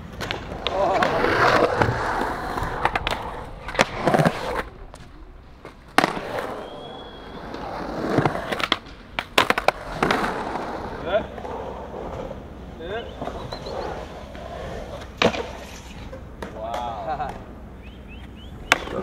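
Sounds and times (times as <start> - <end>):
skateboard clacking on ground: 0.0 - 12.4, 13.1 - 17.6, 18.2 - 19.0
skateboard wheels rolling: 0.0 - 19.0.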